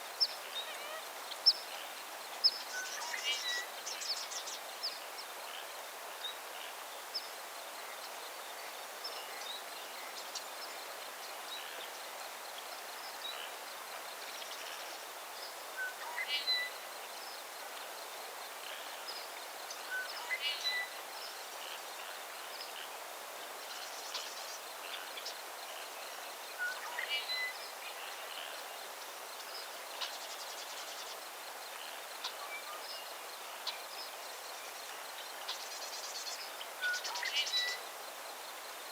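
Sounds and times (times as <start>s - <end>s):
steady hiss: 0.0s - 38.9s
songbird chirps: 6.2s - 38.9s.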